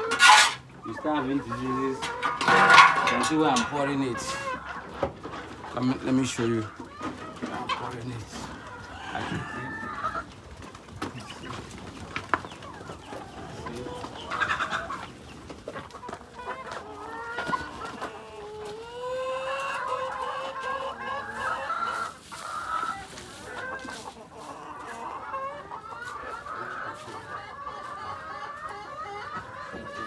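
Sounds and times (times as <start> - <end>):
hens clucking: 0.0 - 30.0.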